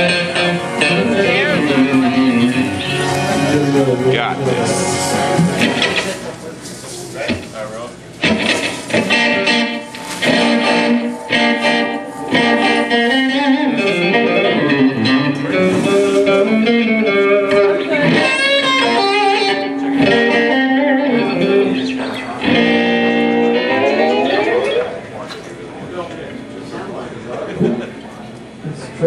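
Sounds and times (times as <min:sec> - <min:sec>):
electric guitar playing: 0:00.0 - 0:06.3, 0:08.2 - 0:25.4.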